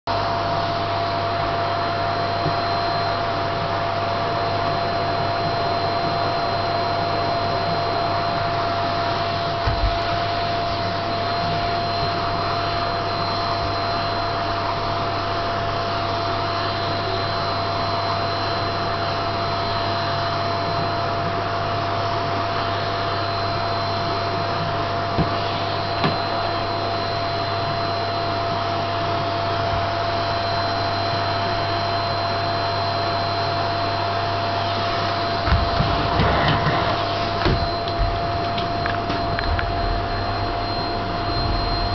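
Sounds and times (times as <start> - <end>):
vacuum cleaner whining: 0.1 - 41.9.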